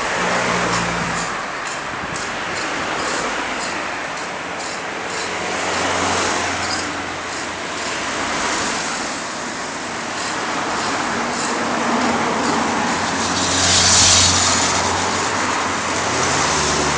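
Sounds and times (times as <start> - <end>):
passing vehicles: 0.0 - 16.9.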